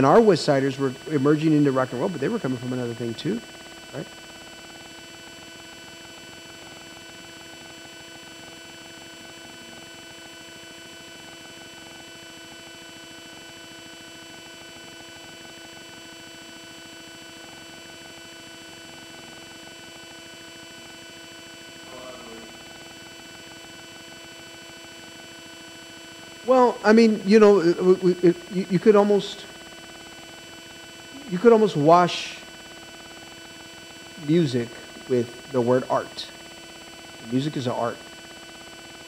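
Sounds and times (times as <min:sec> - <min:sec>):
steady electrical hum: 0:00.0 - 0:15.7, 0:17.4 - 0:39.0.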